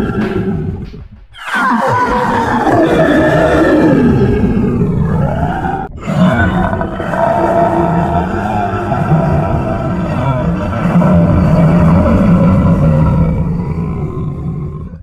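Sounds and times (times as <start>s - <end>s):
monster roar: 0.0s - 15.0s.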